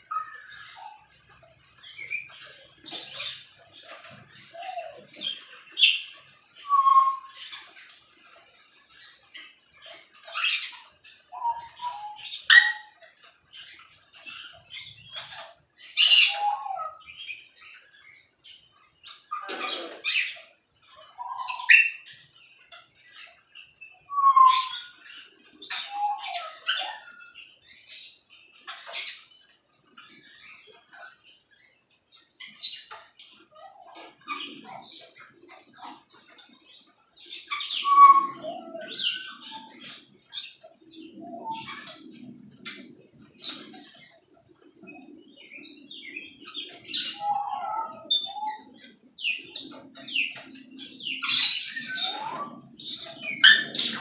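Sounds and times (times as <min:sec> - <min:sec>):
birds chirping and squawking: 0:00.0 - 0:54.0.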